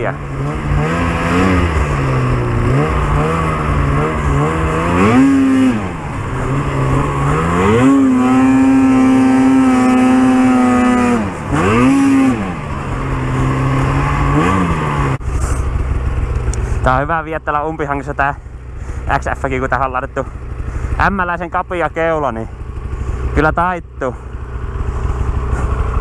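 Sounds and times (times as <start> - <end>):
snowmobile engine revving: 0.0 - 18.2, 18.8 - 26.0.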